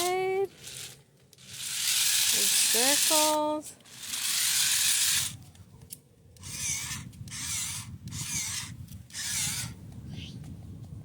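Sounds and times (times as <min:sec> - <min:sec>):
toy car motor whirring: 0:00.0 - 0:05.4, 0:06.4 - 0:09.8.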